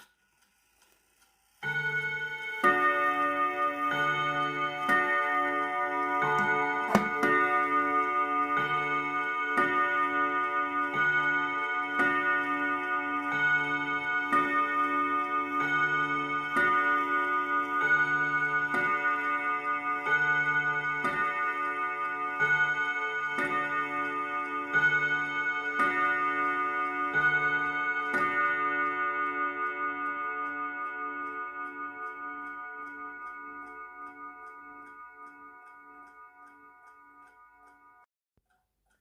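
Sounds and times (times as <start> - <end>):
mantel clock striking gong rods: 1.6 - 38.1.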